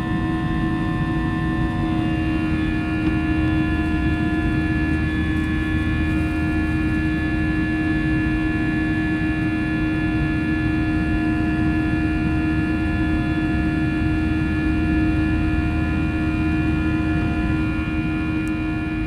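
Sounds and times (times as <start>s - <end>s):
constant tonal hum: 0.0s - 19.0s
jet engine and airflow rumble: 0.0s - 19.0s.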